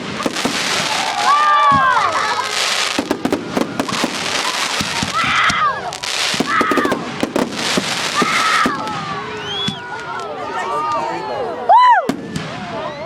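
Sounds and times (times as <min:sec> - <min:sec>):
fireworks cracking and popping: 0:00.0 - 0:10.3, 0:12.1 - 0:12.8.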